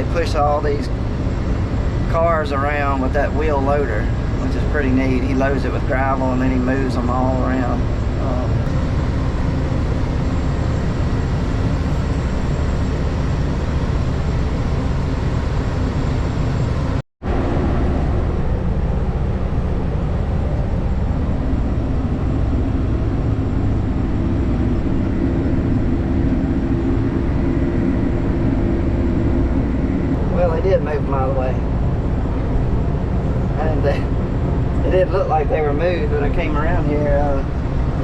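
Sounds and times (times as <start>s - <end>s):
vehicle engine and driving noise: 0.0s - 38.0s.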